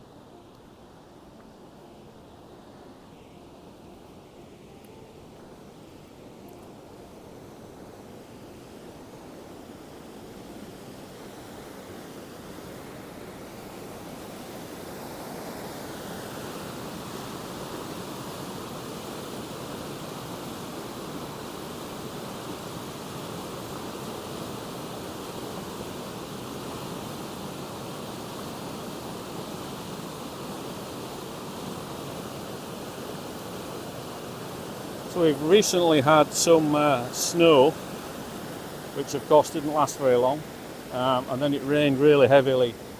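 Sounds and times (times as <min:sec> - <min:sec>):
river rushing in flood: 0:00.0 - 0:42.9.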